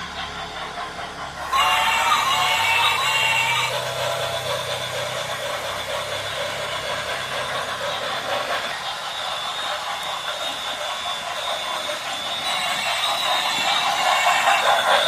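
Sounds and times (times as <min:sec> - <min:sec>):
model train rattling on track: 0:00.0 - 0:15.0.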